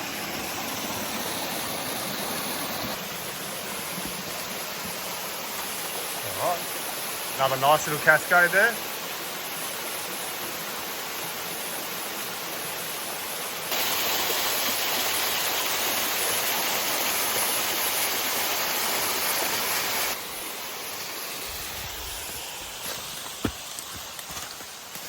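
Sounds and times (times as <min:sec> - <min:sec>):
creek water running over rocks: 0:00.0 - 0:25.0.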